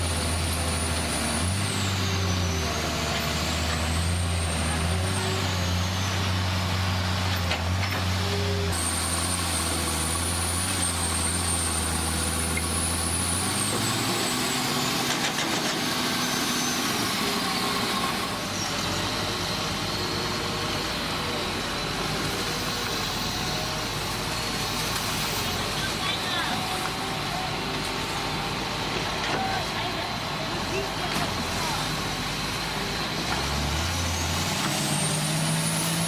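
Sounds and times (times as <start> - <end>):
heavy machinery engine drone: 0.0 - 36.0.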